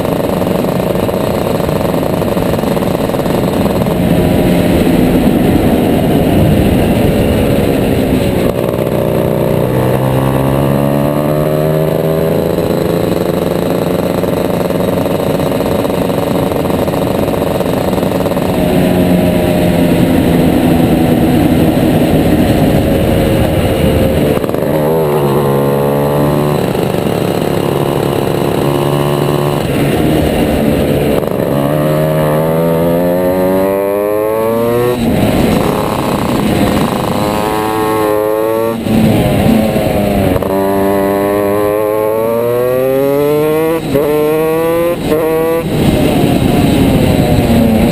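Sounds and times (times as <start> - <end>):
kart engine revving: 0.0 - 47.9.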